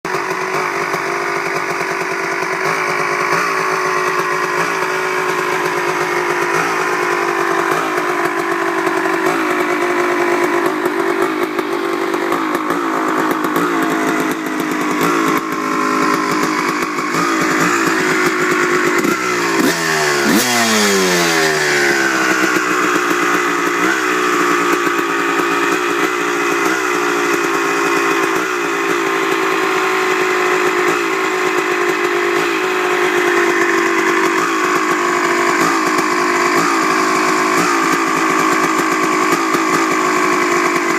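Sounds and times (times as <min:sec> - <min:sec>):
dirt bike engine idling unevenly: 0:00.0 - 0:40.9.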